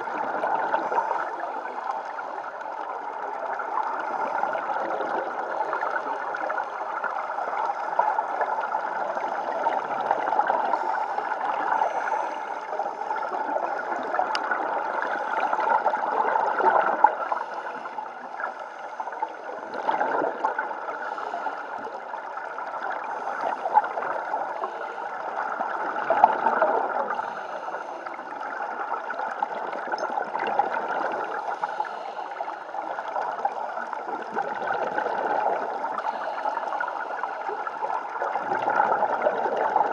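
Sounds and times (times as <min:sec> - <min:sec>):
underwater regulator bubbles gurgling: 0:00.0 - 0:39.9
underwater water wash: 0:00.0 - 0:39.9.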